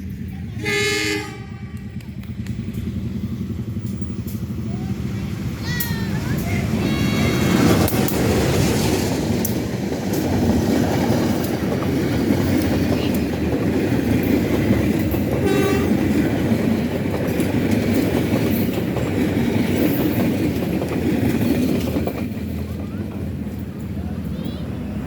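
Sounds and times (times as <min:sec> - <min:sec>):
train wheels rumbling on rails: 0:00.0 - 0:25.0
rail joint clicks: 0:01.5 - 0:25.0.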